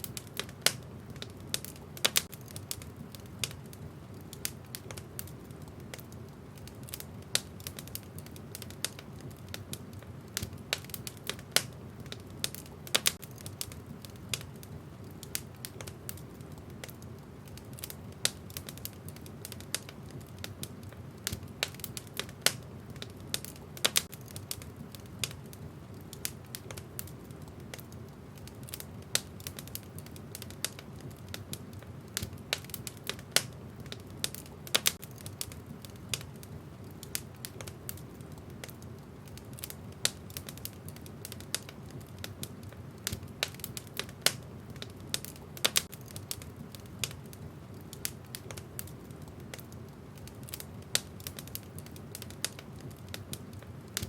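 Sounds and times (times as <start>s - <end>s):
burning logs popping and snapping: 0.0s - 54.0s.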